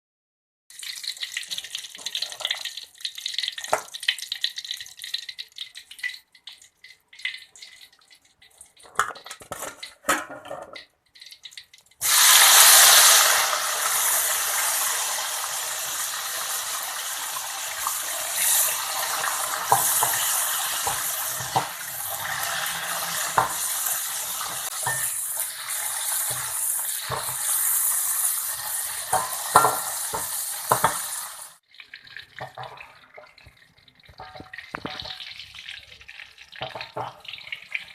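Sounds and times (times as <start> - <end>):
food sizzling in hot oil: 0.7 - 6.2, 11.2 - 37.9.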